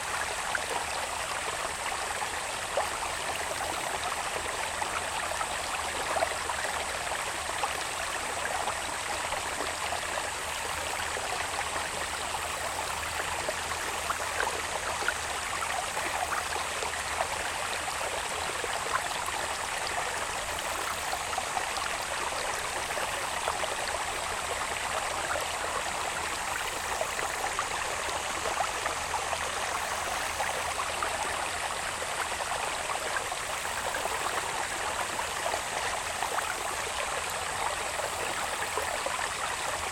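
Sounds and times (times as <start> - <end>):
water babbling in a channel: 0.0 - 39.9.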